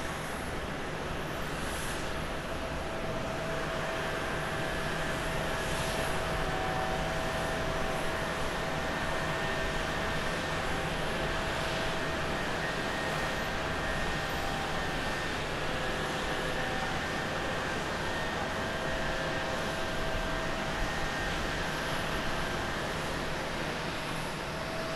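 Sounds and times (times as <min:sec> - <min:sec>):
jet engines rushing and whining: 0:00.0 - 0:24.9.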